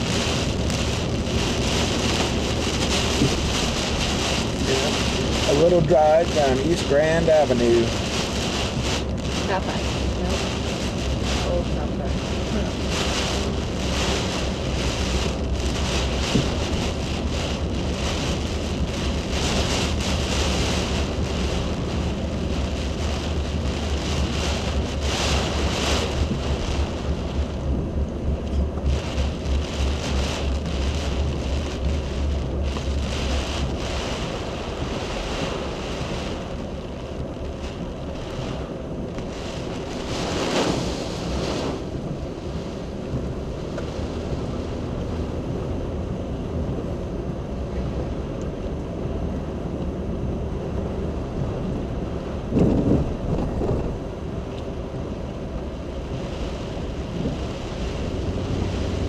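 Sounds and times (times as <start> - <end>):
deep rumble: 0.0 - 59.0
hard driving rain: 0.0 - 59.0
hurricane wind: 0.0 - 59.0
wind gusts buffeting microphone: 0.0 - 59.0.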